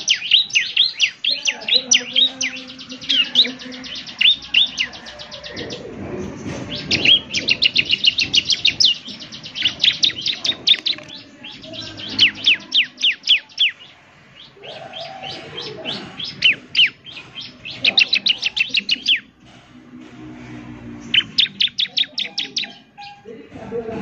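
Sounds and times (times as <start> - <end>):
bird singing chattering song: 0.0 - 19.8, 20.8 - 23.9.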